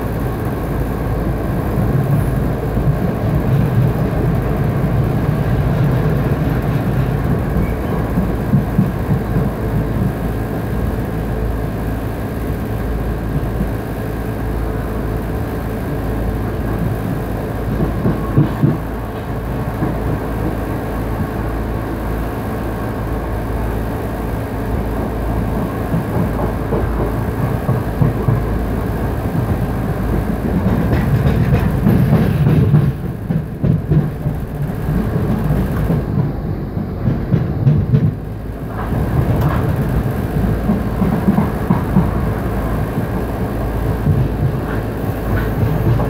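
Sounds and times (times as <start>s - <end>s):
train wheels rumbling: 0.0s - 46.0s.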